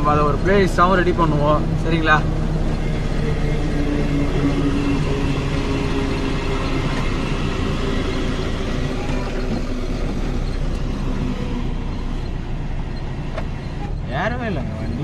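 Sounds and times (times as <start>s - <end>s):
lorry diesel engine drone: 0.0s - 15.0s
road noise: 0.0s - 15.0s.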